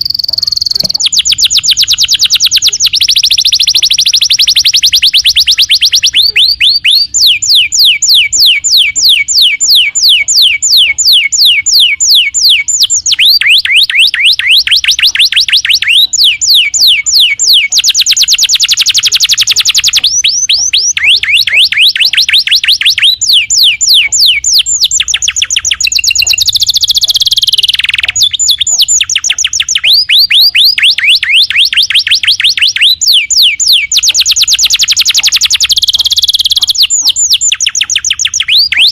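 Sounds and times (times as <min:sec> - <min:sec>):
canary singing rapid trills: 0:00.0 - 0:38.9.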